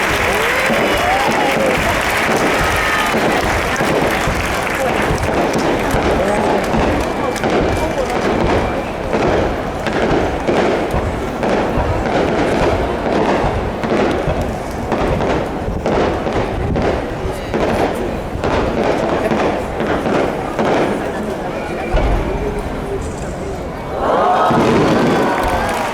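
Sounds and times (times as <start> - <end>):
fireworks bursting: 0.0 - 25.9.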